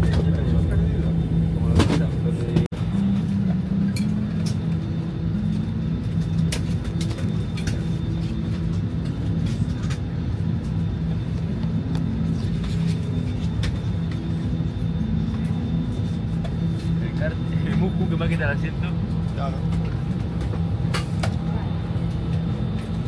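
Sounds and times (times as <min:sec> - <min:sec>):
low aircraft cabin drone: 0:00.0 - 0:23.0.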